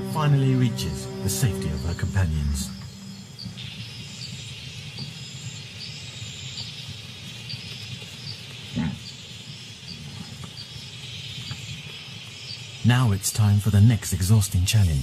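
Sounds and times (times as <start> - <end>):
insect chorus hissing and chirping: 0.0 - 15.0.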